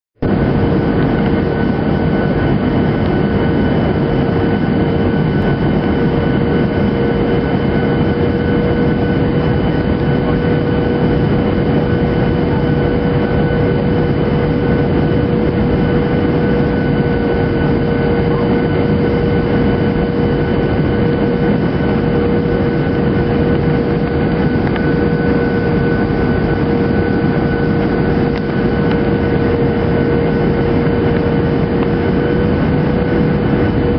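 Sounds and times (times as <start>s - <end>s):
jet engines and rushing air: 0.2s - 33.9s
steady hum: 0.2s - 33.9s.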